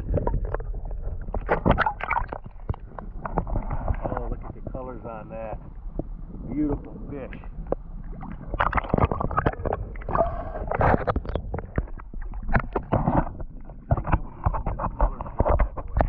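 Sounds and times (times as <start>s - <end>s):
water splashing and gurgling: 0.0s - 16.0s.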